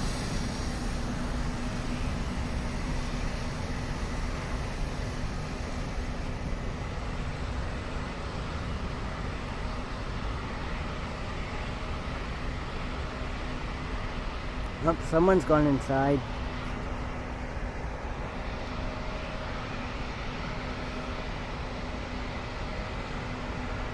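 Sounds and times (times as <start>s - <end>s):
jet engines rumbling: 0.0s - 23.9s.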